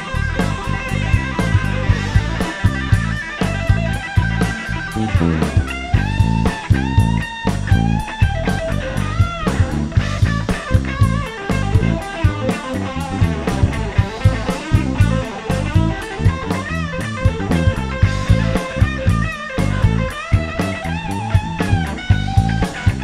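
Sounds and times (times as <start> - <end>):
bass guitar: 0.0 - 23.0
drum kit beat: 0.0 - 23.0
electric guitar lead: 0.0 - 23.0.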